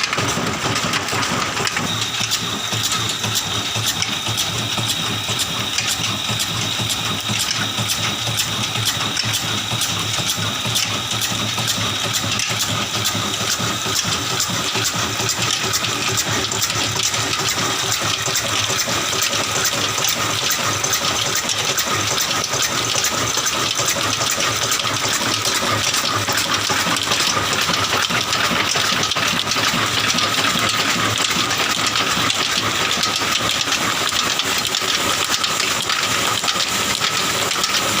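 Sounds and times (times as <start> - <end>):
constant mechanical whine: 0.0 - 38.0
stationary diesel engine running: 0.0 - 38.0.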